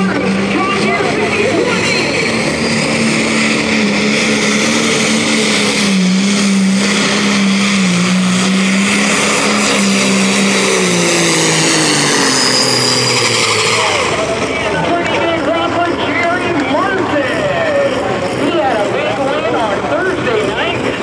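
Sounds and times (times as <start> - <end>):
diesel tractor engine at full throttle: 0.0 - 21.0.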